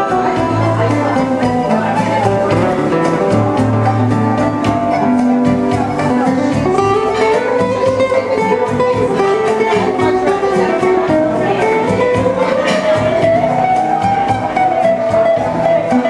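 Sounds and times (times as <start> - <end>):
fingerstyle classical guitar: 0.0 - 16.0.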